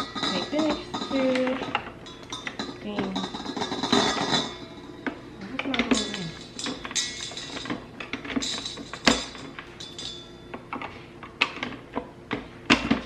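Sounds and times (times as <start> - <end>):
metal mixer beaters clinking: 0.0 - 11.8.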